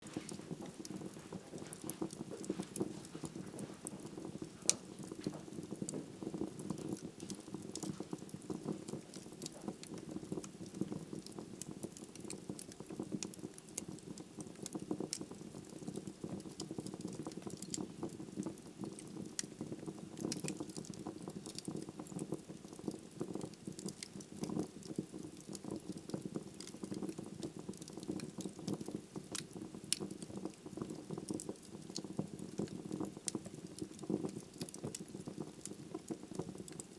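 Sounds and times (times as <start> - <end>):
fire burning: 0.0 - 36.9
wood crackling and popping: 0.0 - 36.9.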